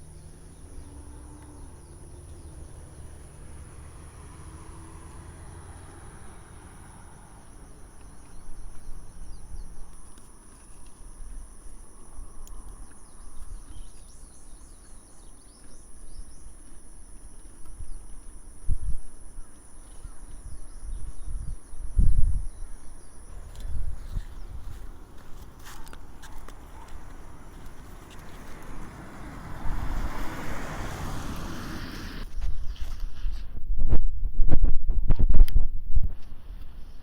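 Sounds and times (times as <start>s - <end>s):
faint insect trill: 0.0s - 33.2s.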